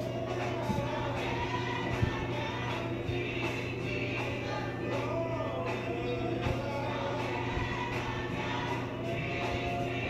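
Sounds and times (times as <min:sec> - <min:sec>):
gospel choir singing: 0:00.0 - 0:10.0
male soloist singing: 0:00.0 - 0:10.0.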